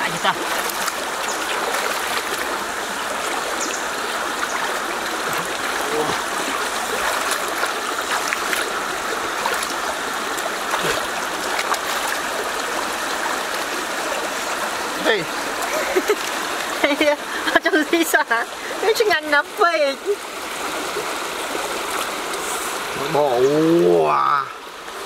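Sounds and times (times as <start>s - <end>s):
stream running over stones: 0.0s - 25.0s
water splashing and trickling: 0.0s - 25.0s.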